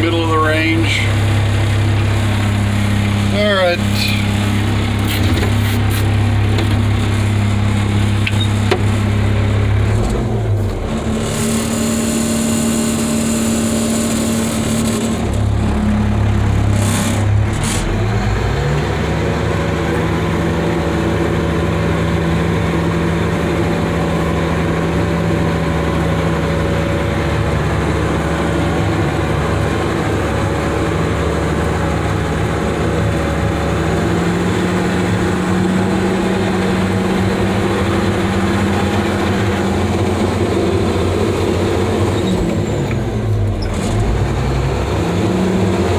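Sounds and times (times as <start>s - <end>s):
diesel truck engine driving: 0.0s - 45.9s.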